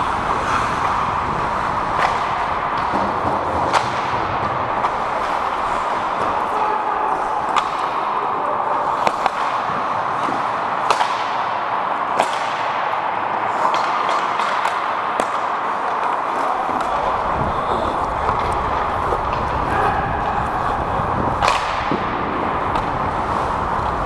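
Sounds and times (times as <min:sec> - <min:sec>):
hockey sticks and puck clacking: 0:00.0 - 0:24.0
skating noise on ice rink: 0:00.0 - 0:24.0.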